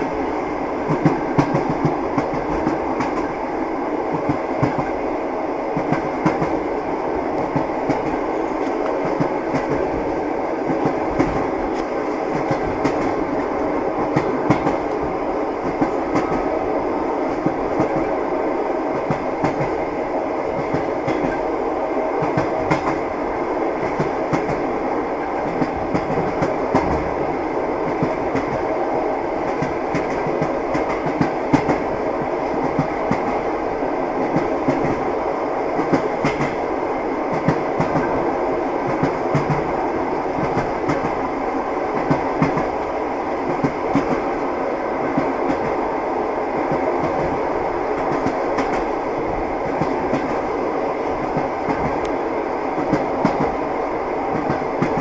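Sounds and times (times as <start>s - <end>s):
train rumbling: 0.0s - 55.0s
train wheels clickety-clack: 0.0s - 55.0s.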